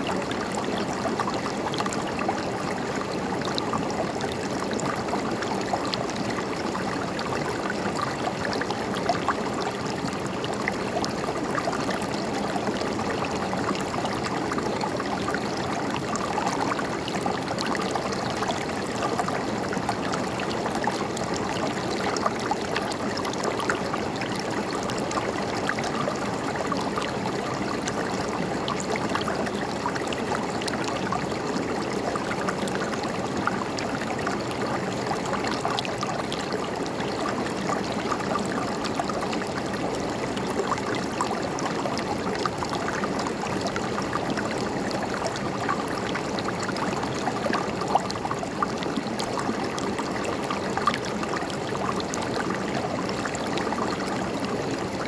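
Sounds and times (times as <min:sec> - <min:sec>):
river water gurgling over stones: 0:00.0 - 0:55.0.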